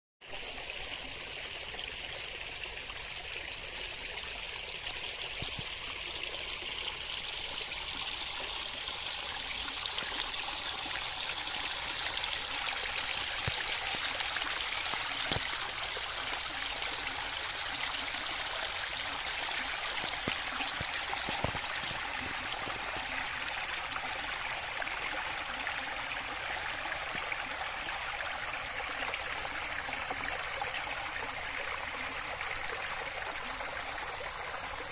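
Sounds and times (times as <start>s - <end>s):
running water rushing: 0.2s - 34.9s.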